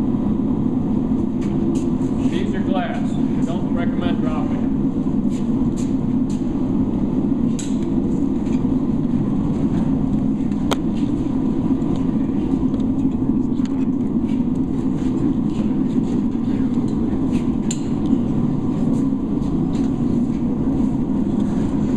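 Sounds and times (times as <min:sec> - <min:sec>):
low mechanical rumble: 0:00.0 - 0:21.9.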